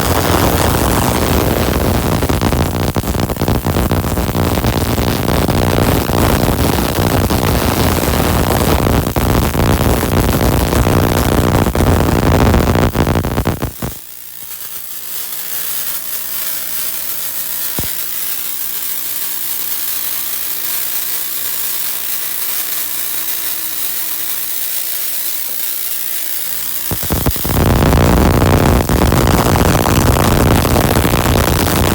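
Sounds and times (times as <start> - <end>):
tesla coil spark crackle: 0.0 - 31.9.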